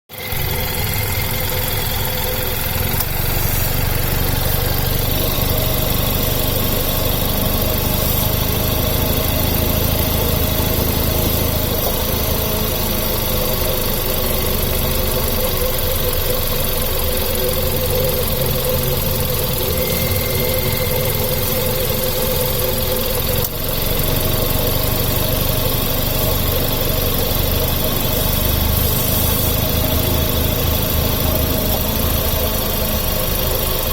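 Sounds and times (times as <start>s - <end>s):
drive belt squeaking: 0.1s - 33.9s
engine idling: 0.1s - 33.9s.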